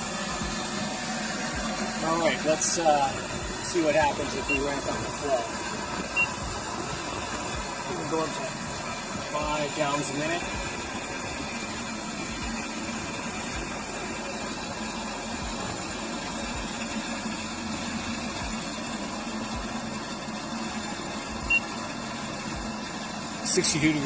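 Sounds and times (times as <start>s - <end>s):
gas water heater humming: 0.0s - 24.0s.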